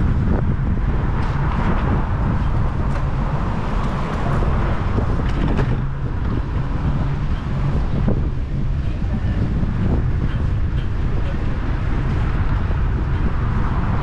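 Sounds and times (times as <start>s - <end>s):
passing city traffic: 0.0s - 14.0s
wind rumbling on microphone: 0.0s - 14.0s.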